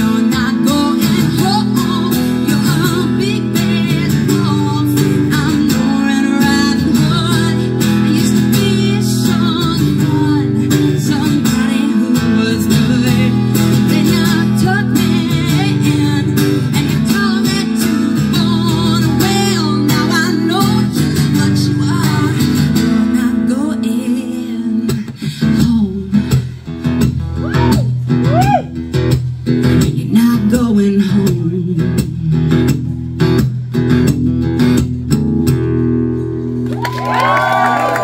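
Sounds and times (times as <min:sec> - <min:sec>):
woman singing country song: 0:00.0 - 0:34.8
acoustic guitar strumming: 0:00.0 - 0:36.7.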